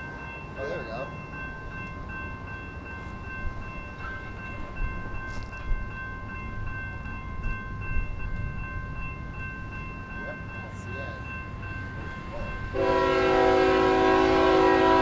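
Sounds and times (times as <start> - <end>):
crossing warning bell ringing: 0.0 - 15.0.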